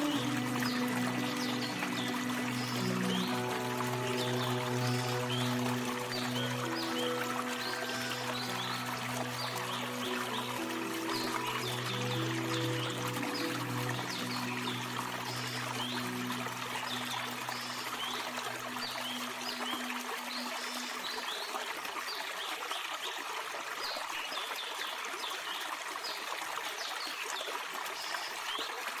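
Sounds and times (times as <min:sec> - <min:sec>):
waterfall splashing over rocks: 0:00.0 - 0:29.0.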